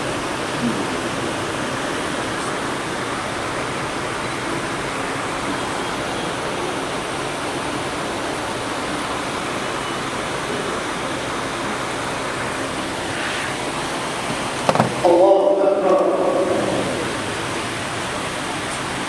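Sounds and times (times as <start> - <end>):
room noise hiss in large hall: 0.0 - 19.0.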